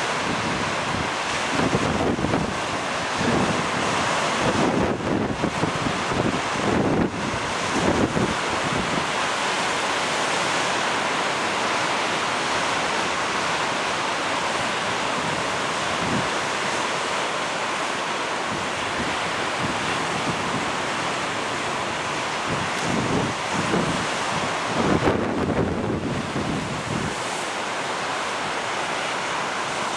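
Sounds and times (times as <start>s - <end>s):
ocean waves breaking on beach: 0.0s - 29.9s.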